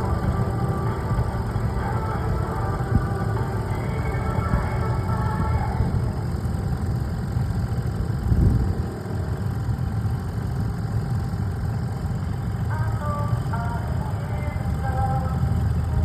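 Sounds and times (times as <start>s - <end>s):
small boat engine rumbling: 0.0s - 16.0s.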